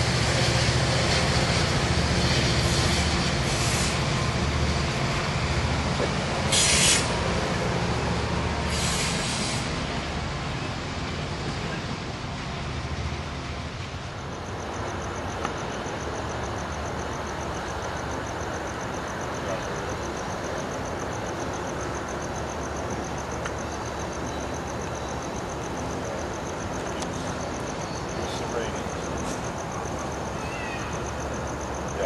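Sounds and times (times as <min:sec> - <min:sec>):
vehicle noise rumble and hiss: 0:00.0 - 0:32.0.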